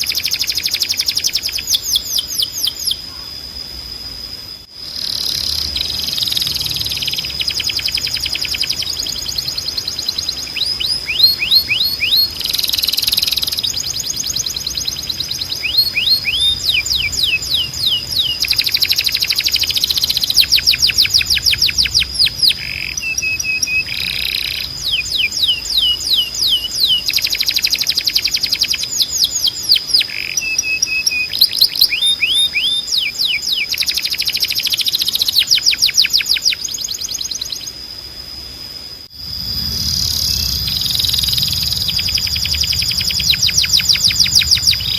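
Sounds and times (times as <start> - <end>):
canary singing trills: 0.0 - 3.3, 4.8 - 37.8, 39.2 - 44.9
thin steady high tone: 0.0 - 44.9.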